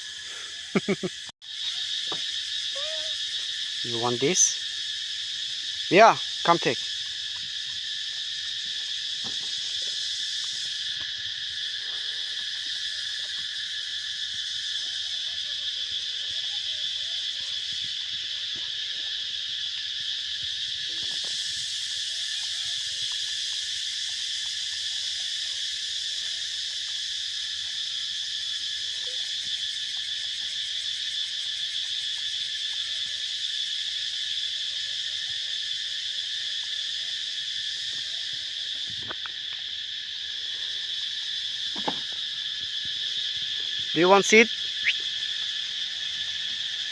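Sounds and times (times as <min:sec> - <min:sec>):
insects droning: 0:00.0 - 0:46.9.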